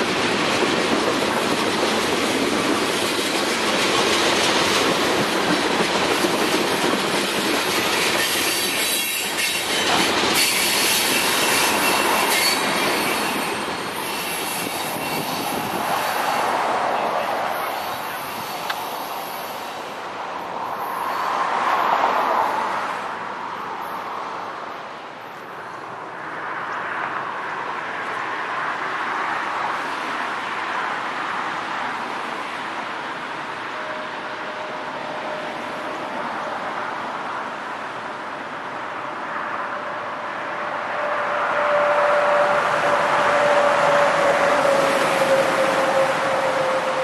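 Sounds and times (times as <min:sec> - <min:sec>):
freight train rolling past: 0:00.0 - 0:24.4, 0:25.2 - 0:47.0.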